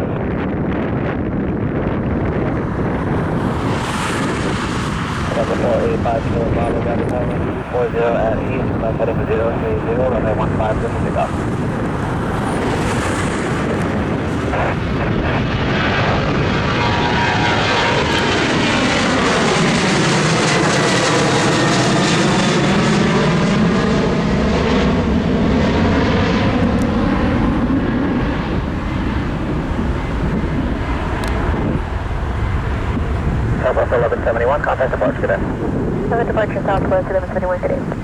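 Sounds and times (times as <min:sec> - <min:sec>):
jet engines at takeoff thrust: 0:00.0 - 0:38.0.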